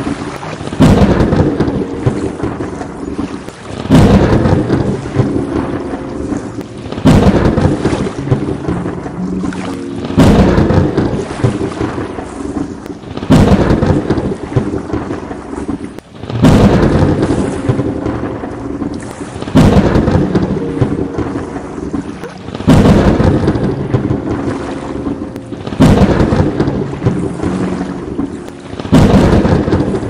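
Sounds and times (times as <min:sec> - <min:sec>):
steady rain: 0:00.0 - 0:30.0
thunder claps rumbling: 0:00.0 - 0:30.0.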